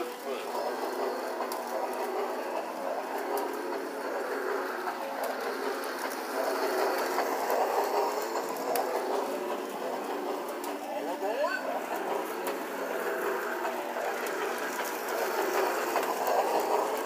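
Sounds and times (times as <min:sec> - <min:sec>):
toy train motor whir: 0:00.0 - 0:17.0
wheels clicking on rails: 0:00.0 - 0:17.0.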